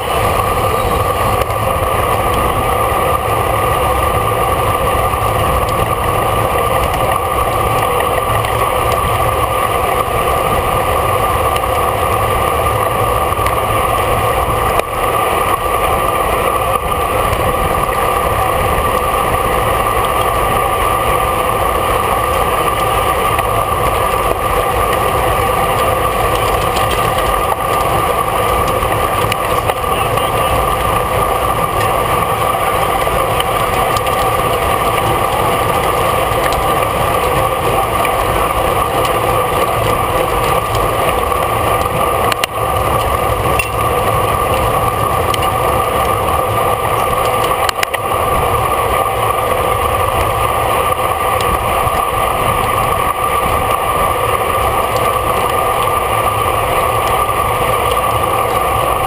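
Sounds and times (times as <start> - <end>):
bicycle road rumble: 0.0 - 59.0.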